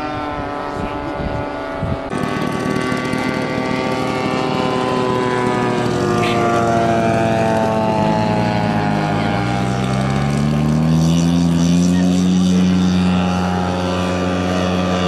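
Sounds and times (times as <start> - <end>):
lower engine note: 0.0 - 15.0
model aeroplane engine running: 0.0 - 15.0.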